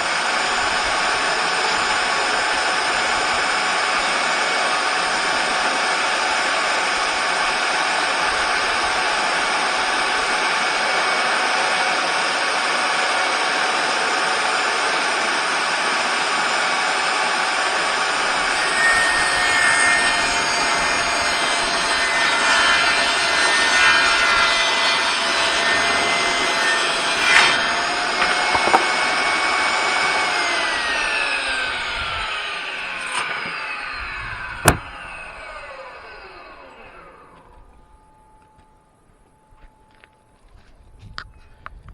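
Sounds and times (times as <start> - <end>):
table saw cutting plywood: 0.0 - 37.4
saw motor whine spinning down: 0.0 - 38.8.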